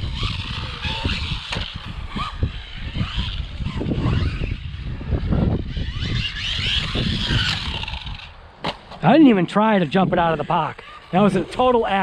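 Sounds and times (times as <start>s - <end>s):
electric motor whining: 0.0s - 8.6s, 9.2s - 12.0s.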